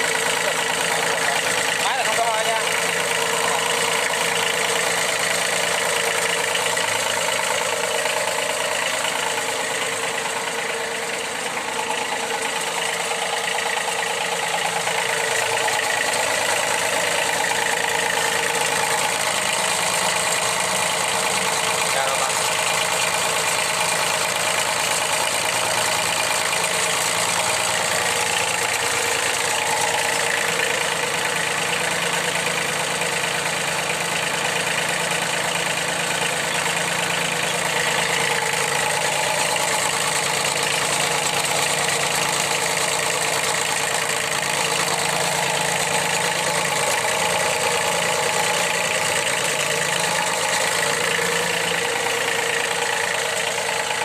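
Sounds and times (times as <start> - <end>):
mower engine idling: 0.0 - 54.0.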